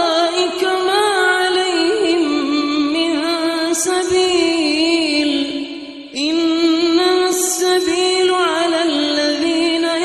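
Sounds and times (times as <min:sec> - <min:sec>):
person chanting recitation: 0:00.0 - 0:10.0.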